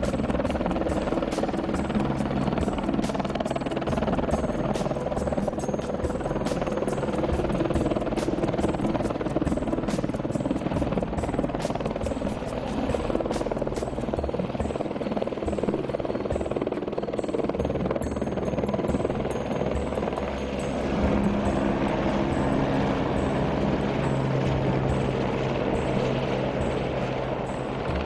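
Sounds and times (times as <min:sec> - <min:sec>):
helicopter rotor chopping: 0:00.0 - 0:28.0.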